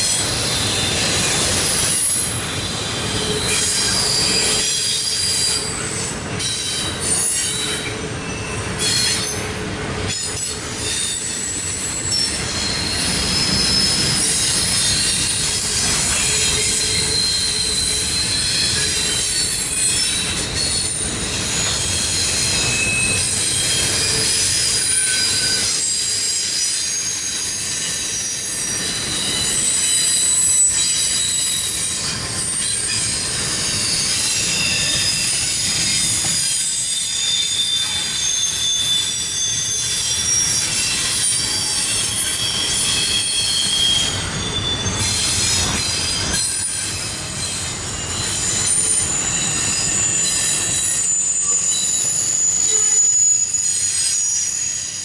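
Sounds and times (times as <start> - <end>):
high-pitched wheel squeal: 0.0 - 55.0
train wheels rumbling on rail: 0.0 - 55.0.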